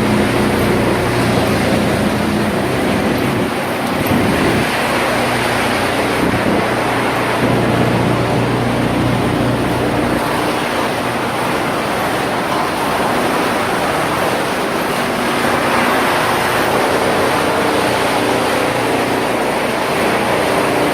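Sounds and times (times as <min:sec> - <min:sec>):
faint humming tones: 0:00.0 - 0:20.9
wood chipper machinery running: 0:00.0 - 0:20.9.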